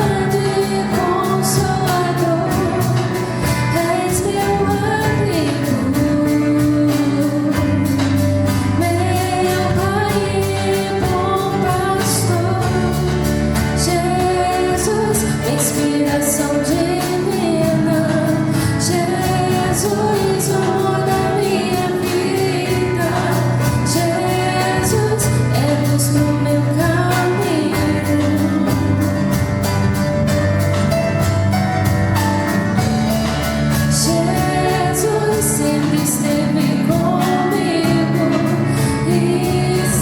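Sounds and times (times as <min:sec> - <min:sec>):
woman singing: 0:00.0 - 0:30.7, 0:32.8 - 0:40.0
live band playing: 0:00.0 - 0:40.0.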